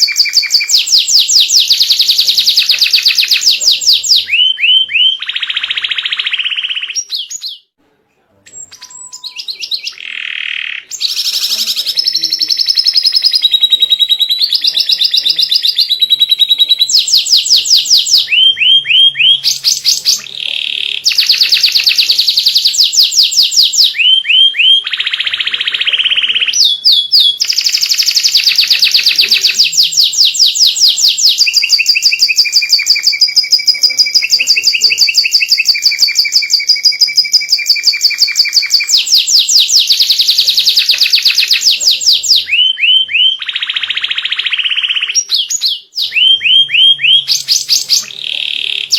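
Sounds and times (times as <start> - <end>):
canary singing trills: 0.0 - 7.8, 8.5 - 48.9.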